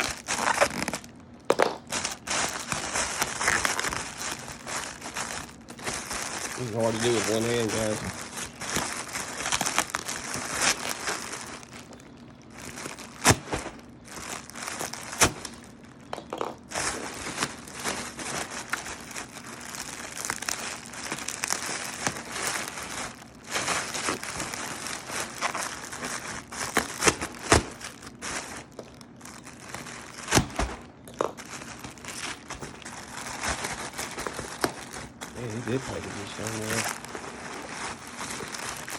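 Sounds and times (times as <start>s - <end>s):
bubble wrap crinkling and snapping: 0.0s - 38.9s.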